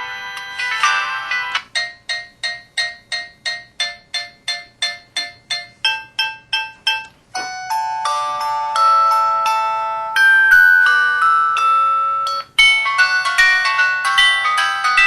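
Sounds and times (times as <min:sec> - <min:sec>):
chiming ringtone melody: 0:00.0 - 0:15.0
repeated electronic bell-like ringtone: 0:00.0 - 0:15.0.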